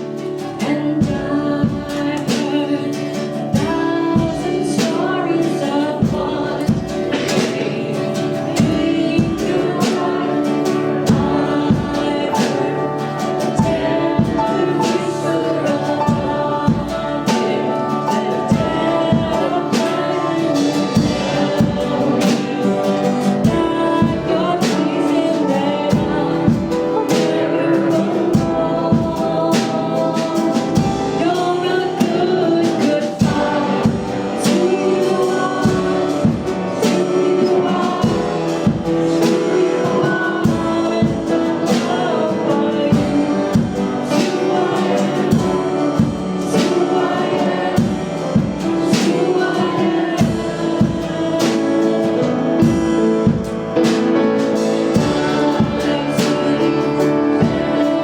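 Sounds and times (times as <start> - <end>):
acoustic guitar: 0.0 - 58.0
band with steady beat: 0.0 - 58.0
person singing worship song: 0.0 - 58.0.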